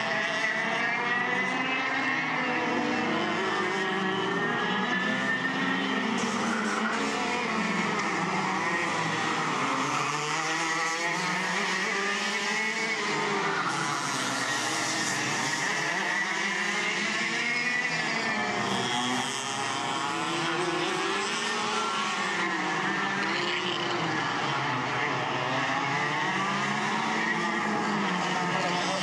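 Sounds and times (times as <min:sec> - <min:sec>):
go-kart engines revving: 0:00.0 - 0:29.0.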